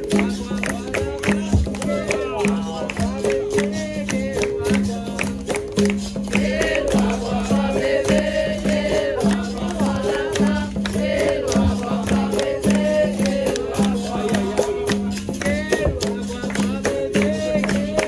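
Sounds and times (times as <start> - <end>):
berimbau rhythm: 0.0 - 18.0
group of voices singing: 0.0 - 18.0
hand percussion strikes: 0.0 - 18.0
shaken rattle: 0.0 - 18.0.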